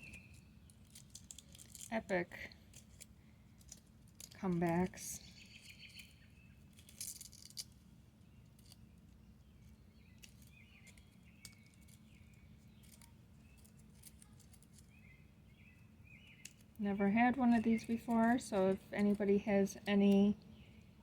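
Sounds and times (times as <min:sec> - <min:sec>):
faint clicks and rustles: 0:00.0 - 0:21.0
low steady hum: 0:00.0 - 0:21.0.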